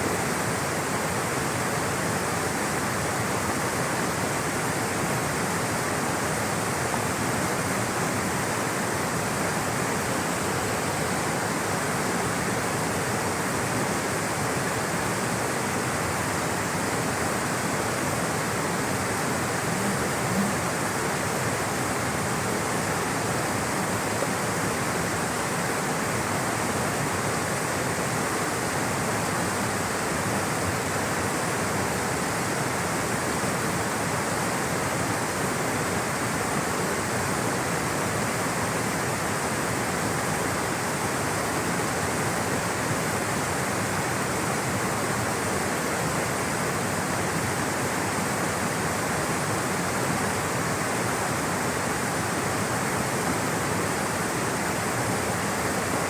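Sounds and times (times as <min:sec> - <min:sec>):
water rushing in a stream: 0:00.0 - 0:56.0.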